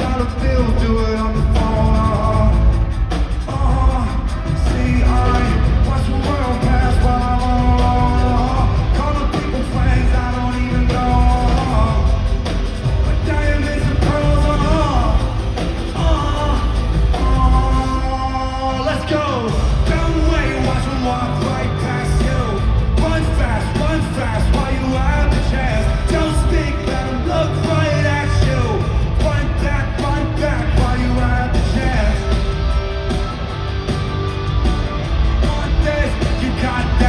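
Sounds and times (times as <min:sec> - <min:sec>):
live rock band: 0:00.0 - 0:37.0
person singing: 0:00.0 - 0:37.0.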